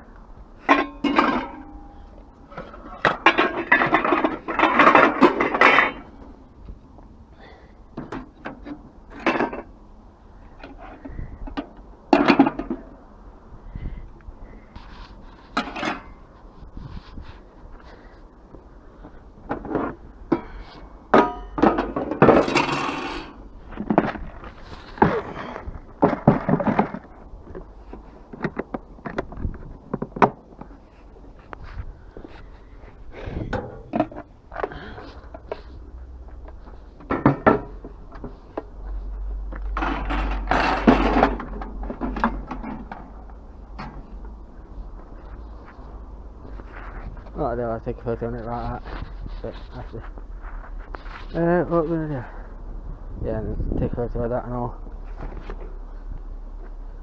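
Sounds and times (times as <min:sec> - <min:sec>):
scrap metal clattering: 0:00.6 - 0:06.5, 0:07.4 - 0:09.8, 0:10.4 - 0:13.0, 0:13.8 - 0:18.1, 0:19.0 - 0:52.5.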